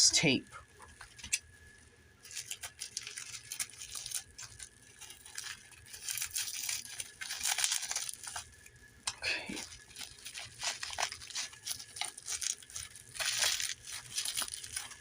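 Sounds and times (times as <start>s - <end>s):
tape tearing and crinkling: 2.2s - 8.8s, 9.5s - 15.0s.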